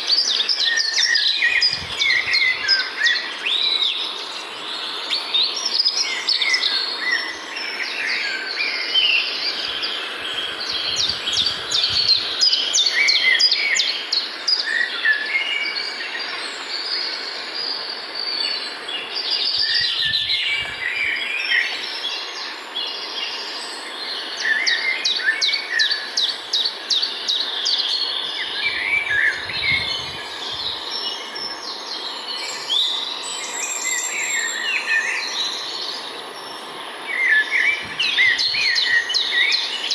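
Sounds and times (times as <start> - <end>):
background hiss: 0.0 - 39.9
wild birds singing and calling: 0.0 - 39.9.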